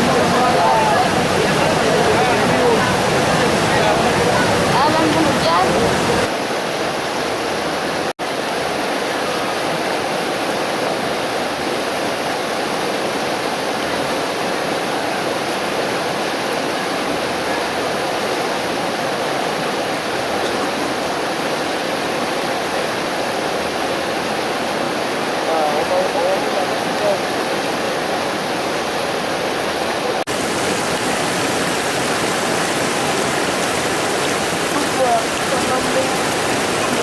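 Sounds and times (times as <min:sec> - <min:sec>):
floodwater rushing: 0:00.0 - 0:37.0.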